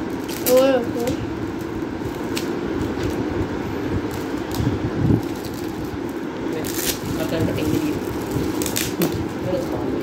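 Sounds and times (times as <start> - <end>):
cellophane rustling and crinkling: 0.0 - 10.0
steady low hum: 0.0 - 10.0.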